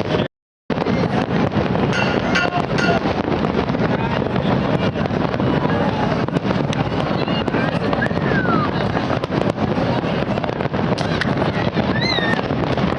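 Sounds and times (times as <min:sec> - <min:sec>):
fireworks crackling and popping: 0:00.0 - 0:12.9
wind buffeting microphone: 0:00.0 - 0:12.9.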